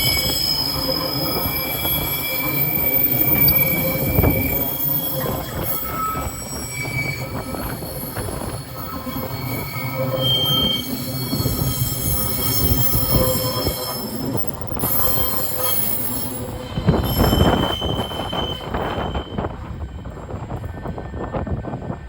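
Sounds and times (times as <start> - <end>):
steel wheels squealing: 0.0 - 21.9
train rumble: 0.0 - 22.0.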